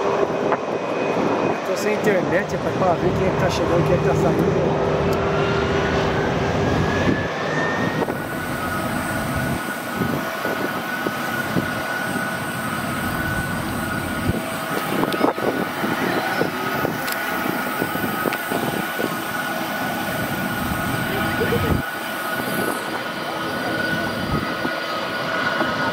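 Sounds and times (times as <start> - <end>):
jet engines taxiing whine: 0.0 - 25.9
jet takeoff roll rising whine: 0.0 - 25.9.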